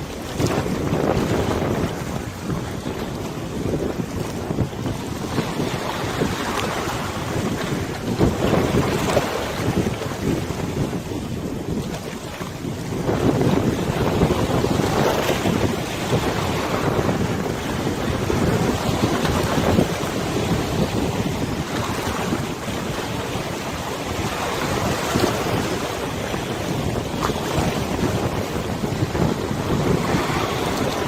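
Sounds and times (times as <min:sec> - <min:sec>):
waves lapping: 0:00.0 - 0:31.0
wind buffeting microphone: 0:00.0 - 0:31.0.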